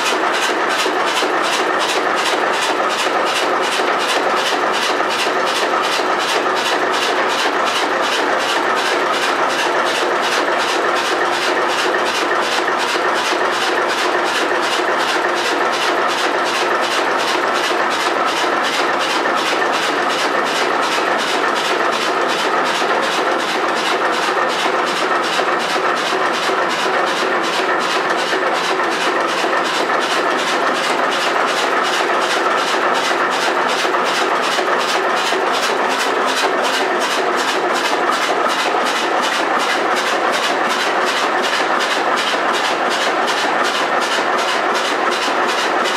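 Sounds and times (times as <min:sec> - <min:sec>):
engine knocking rhythmically: 0:00.0 - 0:45.9.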